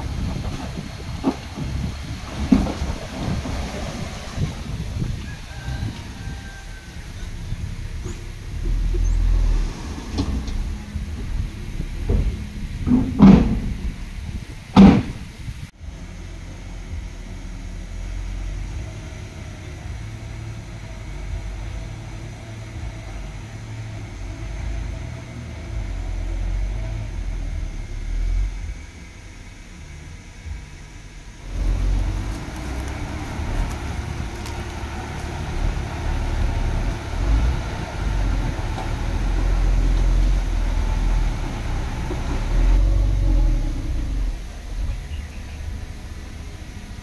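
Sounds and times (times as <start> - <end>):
diesel machinery rumbling: 0.0 - 47.0.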